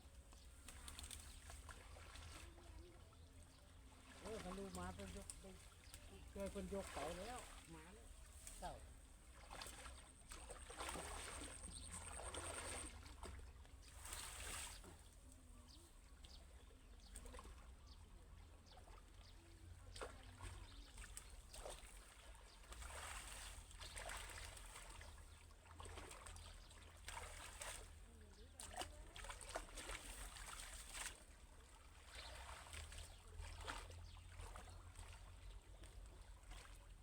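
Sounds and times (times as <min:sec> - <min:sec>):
faint water trickling: 0:00.0 - 0:37.0
short water splashes: 0:00.0 - 0:37.0.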